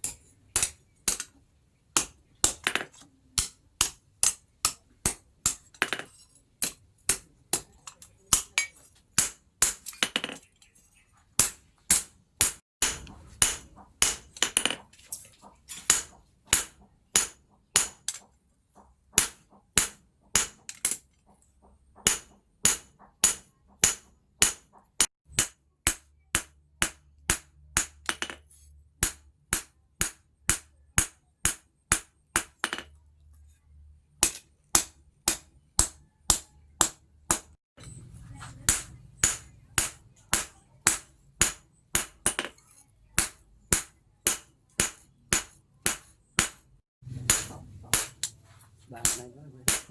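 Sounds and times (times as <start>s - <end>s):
hammer striking steel on anvil: 0.0s - 1.4s, 2.0s - 10.4s, 11.4s - 14.9s, 15.8s - 18.3s, 19.2s - 21.0s, 22.0s - 28.4s, 29.0s - 32.9s, 34.2s - 48.4s, 49.0s - 49.9s.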